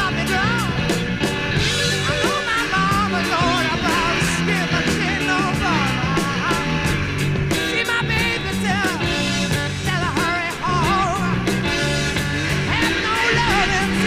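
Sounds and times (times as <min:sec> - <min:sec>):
bending lead guitar line: 0:00.0 - 0:14.0
rock music: 0:00.0 - 0:14.0.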